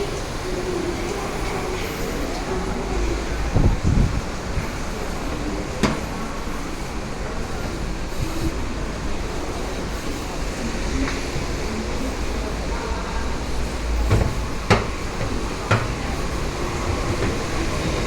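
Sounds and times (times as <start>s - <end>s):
train rumble and hiss: 0.0s - 18.0s.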